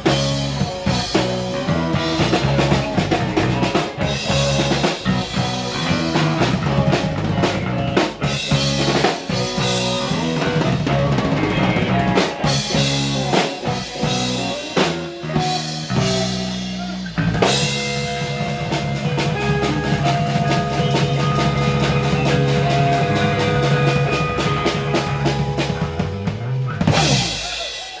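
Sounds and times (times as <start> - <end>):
electric bass: 0.0 - 27.8
drum kit: 0.0 - 28.0
electric guitar: 0.0 - 28.0.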